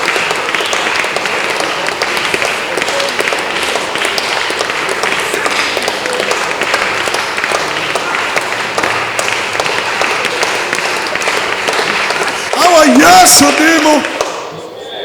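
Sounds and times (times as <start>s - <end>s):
congregation clapping hands: 0.0s - 14.7s.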